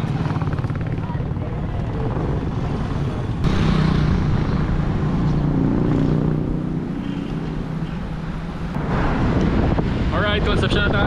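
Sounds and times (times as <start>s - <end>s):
road rumble: 0.0s - 11.0s
wind: 0.0s - 11.0s.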